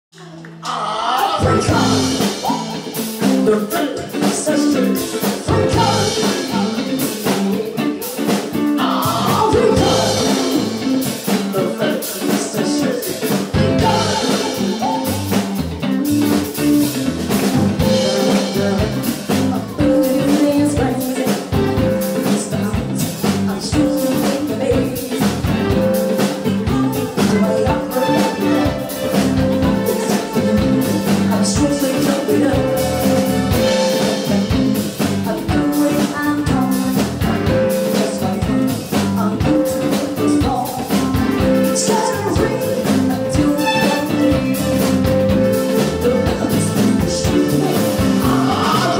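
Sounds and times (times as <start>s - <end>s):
woman singing lead: 0.2s - 16.6s, 17.5s - 48.9s
electric guitars: 0.2s - 48.9s
keyboard: 0.2s - 48.9s
drum kit beat: 1.2s - 48.9s.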